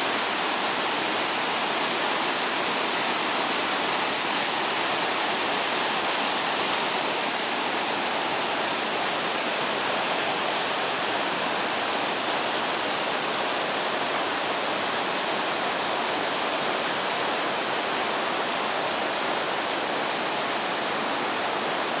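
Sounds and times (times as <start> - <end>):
river rapids rushing over boulders: 0.0 - 22.0.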